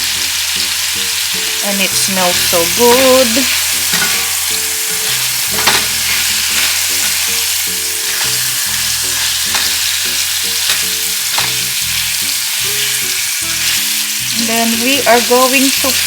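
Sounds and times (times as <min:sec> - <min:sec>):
chicken wings sizzling in pan: 0:00.0 - 0:16.0
utensil scraping pan: 0:01.6 - 0:16.0.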